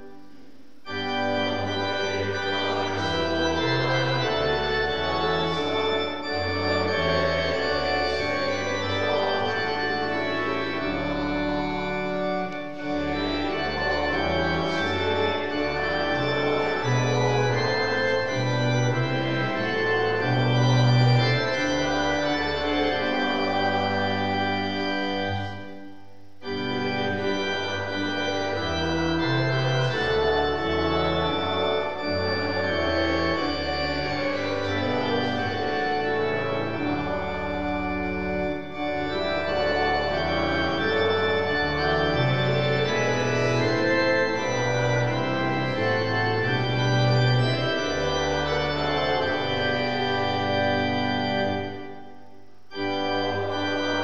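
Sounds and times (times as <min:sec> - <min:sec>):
church organ playing a hymn: 0:00.0 - 0:54.0.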